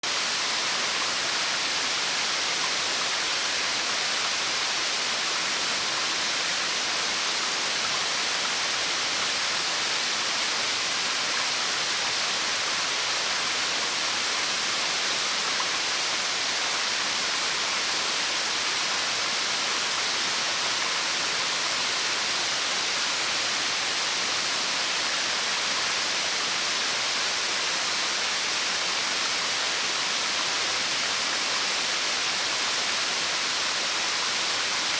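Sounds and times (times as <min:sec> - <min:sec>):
waterfall splashing: 0:00.0 - 0:34.9.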